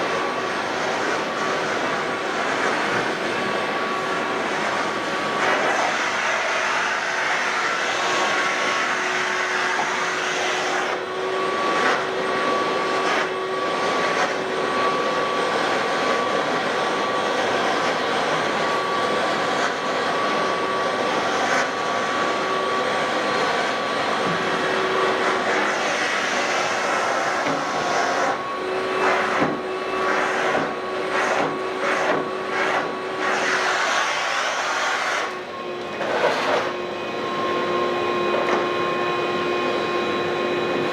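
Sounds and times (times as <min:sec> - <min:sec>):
carpet cleaning machine whining hiss: 0:00.0 - 0:40.9.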